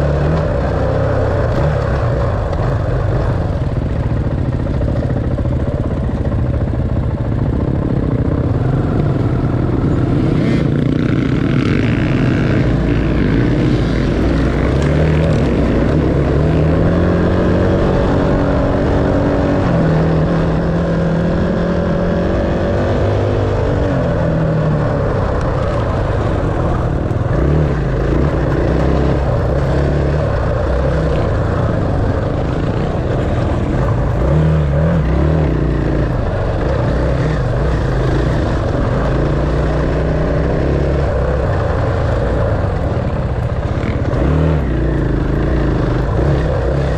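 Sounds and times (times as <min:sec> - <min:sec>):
dirt bike engine revving: 0:00.0 - 0:05.6, 0:07.6 - 0:46.9.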